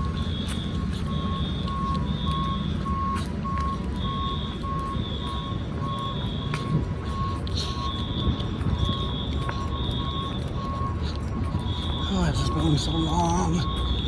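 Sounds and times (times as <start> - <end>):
mid-pitched electronic beep: 0.0 - 14.0.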